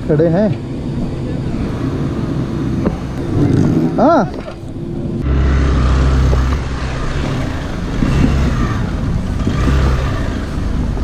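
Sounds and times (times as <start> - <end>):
motorcycle engine surging: 1.3 - 11.0.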